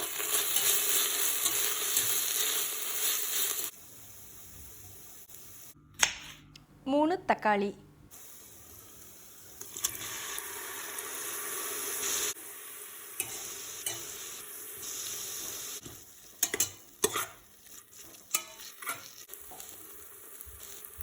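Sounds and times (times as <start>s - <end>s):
tomatoes sizzling in hot oil: 0.0s - 5.8s, 8.1s - 21.0s.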